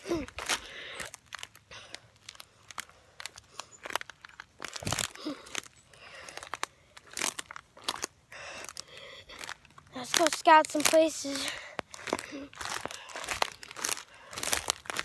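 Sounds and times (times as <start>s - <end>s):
footsteps crunching through brush: 2.2s - 15.0s.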